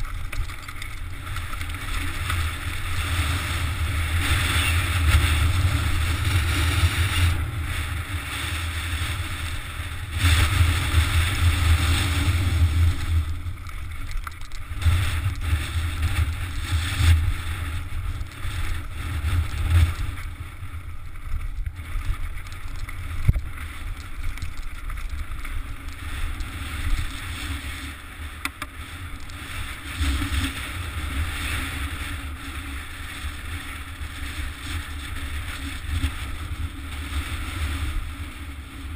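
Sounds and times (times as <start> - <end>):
bike tyres rattling over rocks: 0.0 - 38.9.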